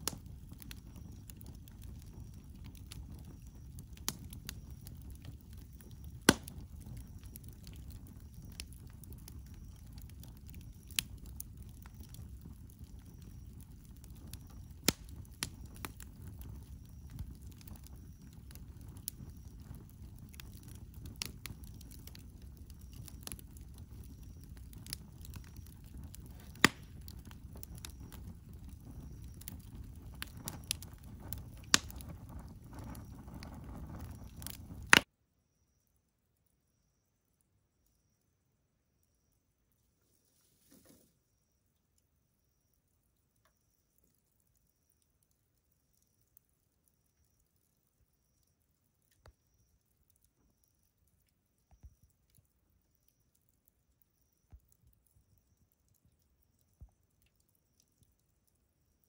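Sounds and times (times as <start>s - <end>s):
campfire flames rumbling: 0.0s - 35.1s, 44.0s - 59.0s
fire crackling pops: 0.0s - 35.1s, 40.4s - 59.0s.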